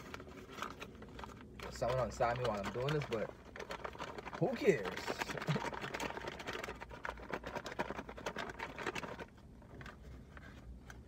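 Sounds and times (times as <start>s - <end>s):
bag rustling and crinkling: 0.0s - 11.0s.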